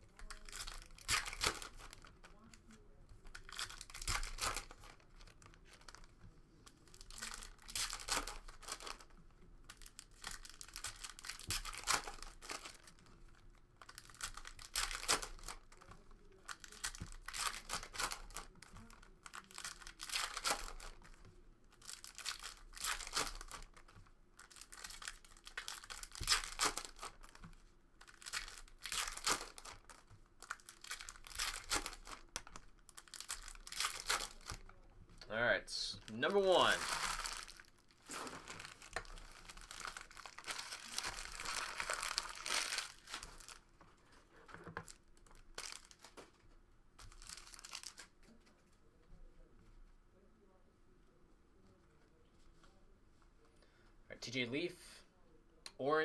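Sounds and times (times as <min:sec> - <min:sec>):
plastic wrappers tearing and crinkling: 0:00.0 - 0:34.8, 0:35.9 - 0:43.7, 0:44.5 - 0:46.4, 0:47.0 - 0:48.4.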